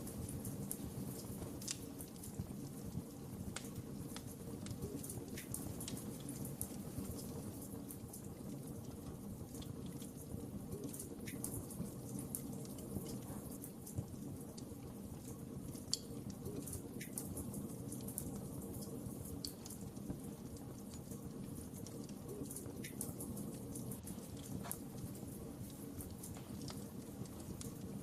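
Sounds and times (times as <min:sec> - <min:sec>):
fire crackles and pops: 0:00.0 - 0:28.0
low rumble of flames: 0:00.0 - 0:28.0.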